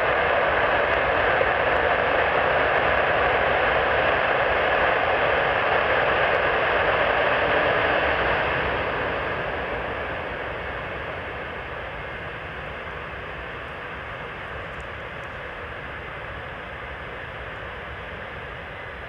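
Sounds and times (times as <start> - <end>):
jet engine rushing: 0.0 - 19.0.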